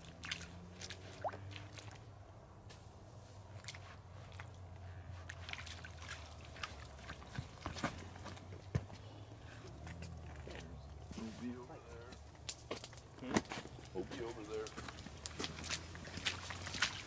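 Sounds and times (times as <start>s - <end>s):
footsteps on wet concrete: 0.0s - 2.0s, 3.5s - 4.6s, 5.2s - 9.0s, 9.7s - 17.0s.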